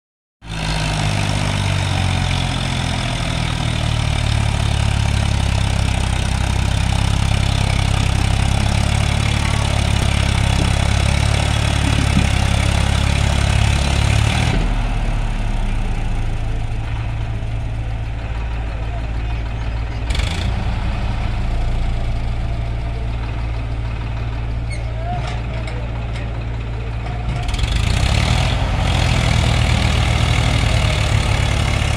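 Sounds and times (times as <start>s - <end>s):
tractor diesel engine running: 0.5s - 31.9s.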